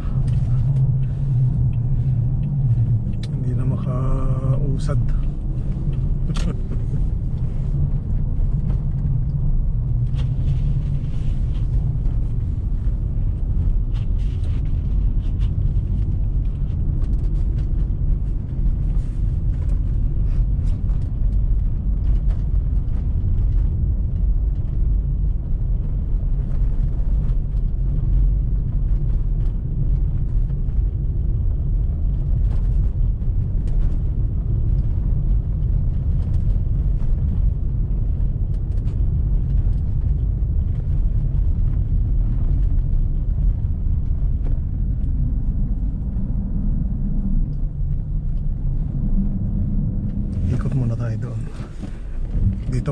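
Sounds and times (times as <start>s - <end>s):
car engine and tyres rumbling: 0.0s - 52.9s.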